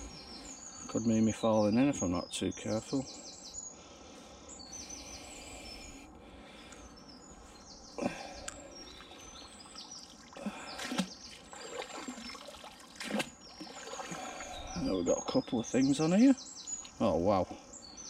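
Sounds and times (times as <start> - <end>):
outdoor background noise: 0.0 - 18.0
small birds trilling: 0.0 - 18.0.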